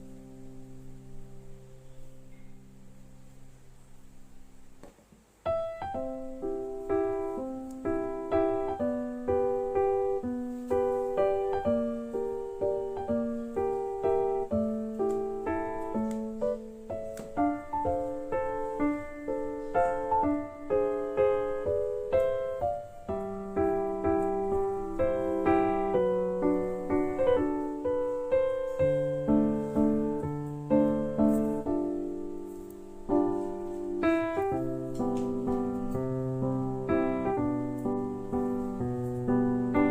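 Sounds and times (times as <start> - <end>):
piano melody: 0.0 - 4.8, 5.4 - 39.9.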